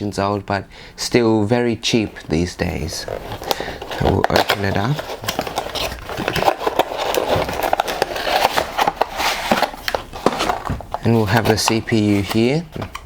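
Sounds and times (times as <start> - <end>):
packaging rustling and crinkling: 1.9 - 13.0.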